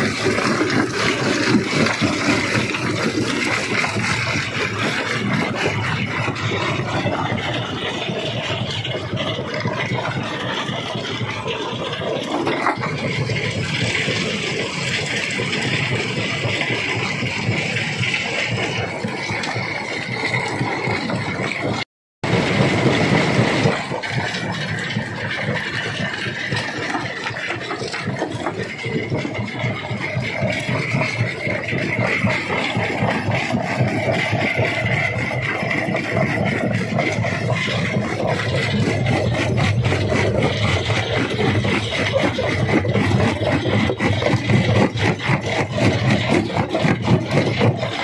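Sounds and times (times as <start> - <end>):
rock crusher grinding and rattling: 0.0 - 48.0.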